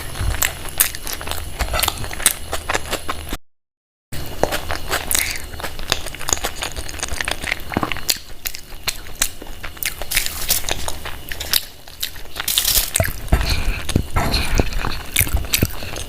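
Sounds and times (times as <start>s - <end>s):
chewing and crunching: 0.0s - 3.4s, 4.2s - 16.0s.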